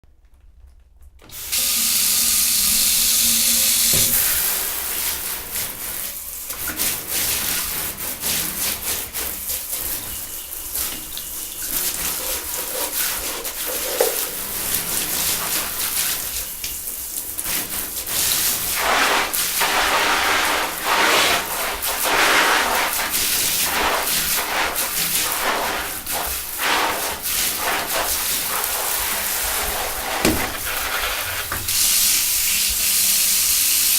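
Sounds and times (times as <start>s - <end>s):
shower spray: 1.2s - 33.9s.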